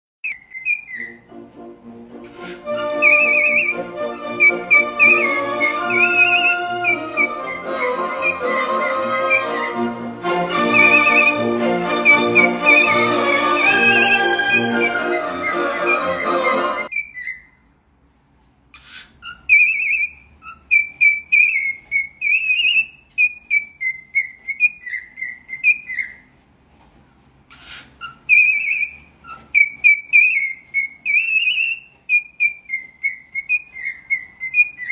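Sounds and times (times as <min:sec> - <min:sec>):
parrot whistling a melody: 0:00.2 - 0:01.3, 0:02.2 - 0:17.6, 0:18.8 - 0:26.3, 0:27.5 - 0:34.9.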